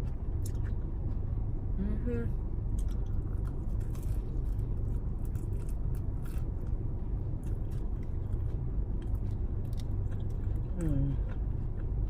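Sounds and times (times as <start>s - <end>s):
person chewing pizza: 0.0s - 1.6s, 2.6s - 12.0s
low rumble in car cabin: 0.0s - 12.0s.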